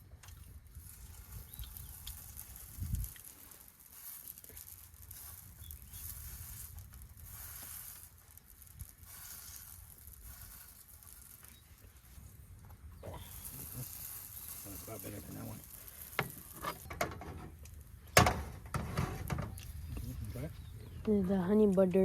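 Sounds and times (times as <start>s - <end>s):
dough sizzling in a pan: 0.0s - 19.8s.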